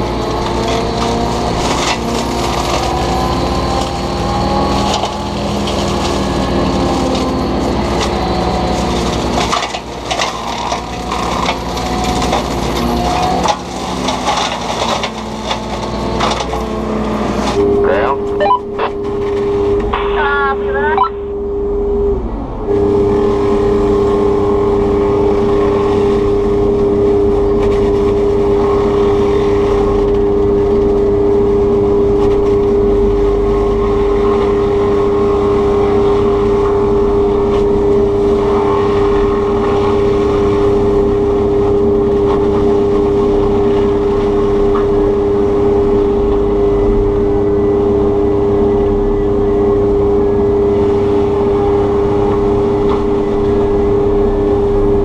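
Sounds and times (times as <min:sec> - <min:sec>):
forestry mulcher machine drone: 0:00.0 - 0:55.0.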